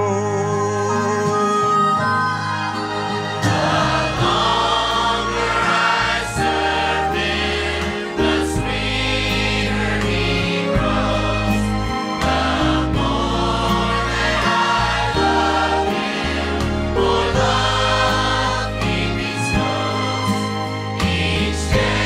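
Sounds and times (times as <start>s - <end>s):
church choir singing gospel song: 2.4s - 22.0s.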